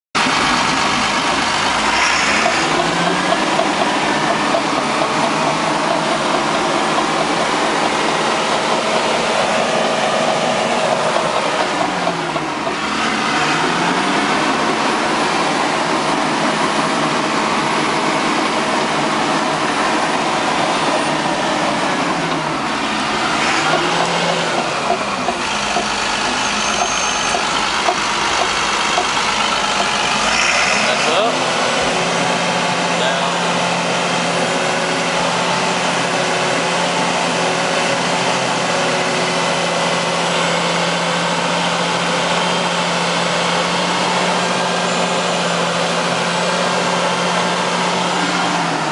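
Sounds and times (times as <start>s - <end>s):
bulldozer diesel engine: 0.1s - 48.9s.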